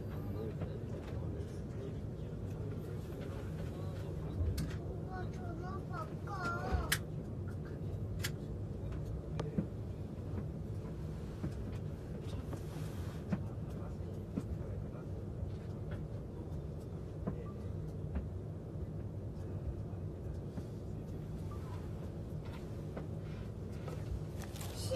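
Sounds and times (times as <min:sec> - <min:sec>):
train cabin rumble and hum: 0:00.0 - 0:24.9.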